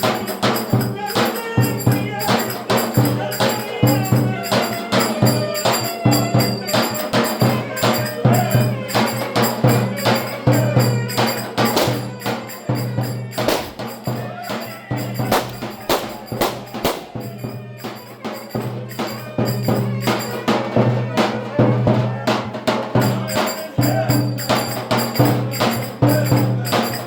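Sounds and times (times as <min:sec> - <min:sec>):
folk dance music: 0:00.0 - 0:21.8
fast percussion strikes: 0:00.0 - 0:27.0.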